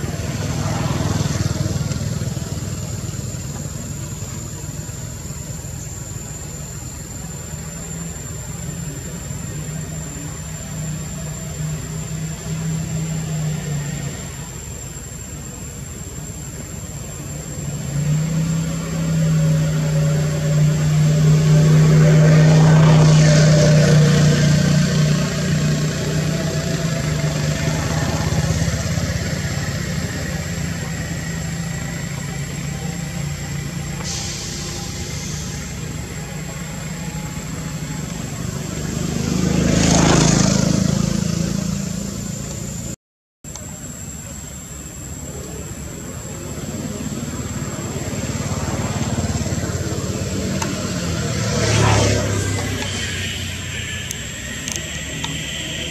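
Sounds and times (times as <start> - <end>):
traffic engine drone: 0.0 - 55.9
vehicles passing: 0.0 - 55.9.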